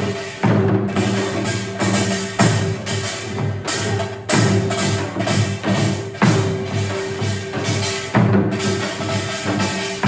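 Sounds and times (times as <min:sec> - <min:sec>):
sharp percussion strikes: 0:00.0 - 0:10.0.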